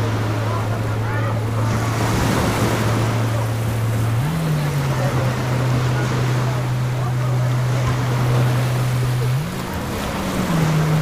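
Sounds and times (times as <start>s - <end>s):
motorboat engine humming: 0.0s - 11.0s
surf washing: 0.0s - 11.0s.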